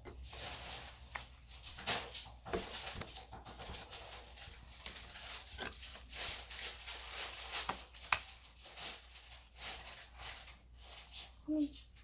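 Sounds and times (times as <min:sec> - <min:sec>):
slime crackles and squelches: 0:00.0 - 0:12.0.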